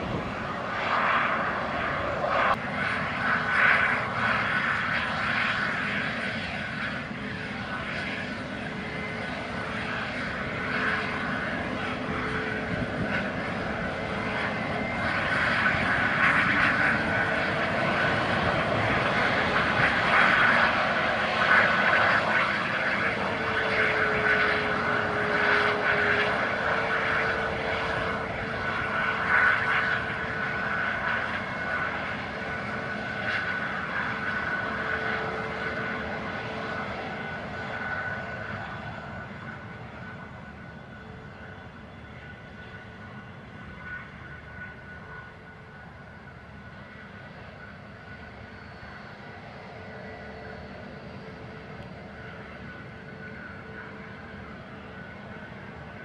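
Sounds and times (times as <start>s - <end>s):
jet engines whining at taxi: 0.0s - 56.0s.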